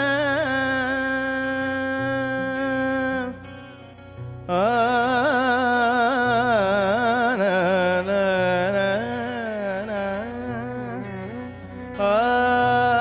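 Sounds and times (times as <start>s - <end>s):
man singing wordless vowels: 0.0s - 13.0s.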